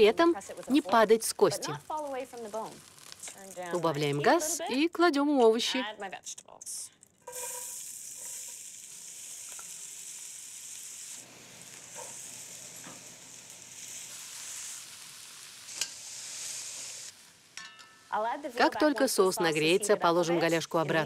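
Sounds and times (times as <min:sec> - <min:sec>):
vegetables sizzling in a pot: 0:00.0 - 0:21.0.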